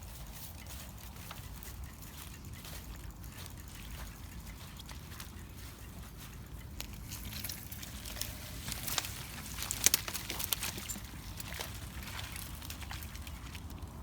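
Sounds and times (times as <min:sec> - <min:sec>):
bicycle crunching over rough ground: 0:00.0 - 0:14.0.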